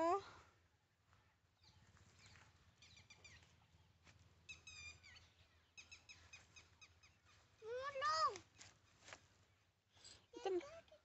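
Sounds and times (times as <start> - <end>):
faint high bird chirps: 1.1 - 11.0.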